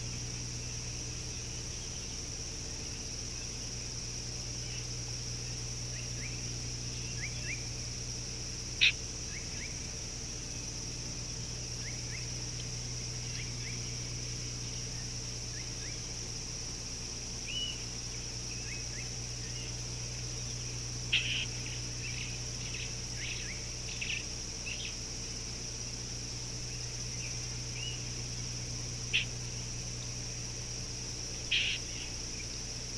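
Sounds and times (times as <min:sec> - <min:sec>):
high insect drone: 0:00.0 - 0:32.9
low steady hum: 0:00.0 - 0:32.9.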